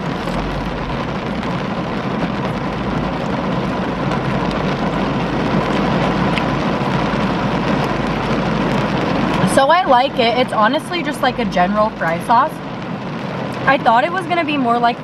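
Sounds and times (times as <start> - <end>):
rain on car roof: 0.0 - 15.0.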